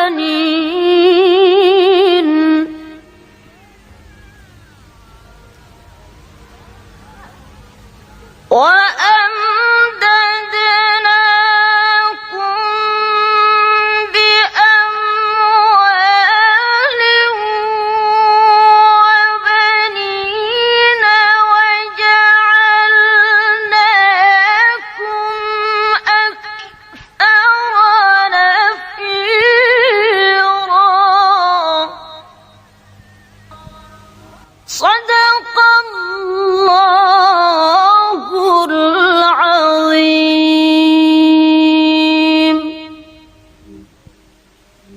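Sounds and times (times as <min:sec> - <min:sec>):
woman chanting recitation: 0:00.0 - 0:43.8.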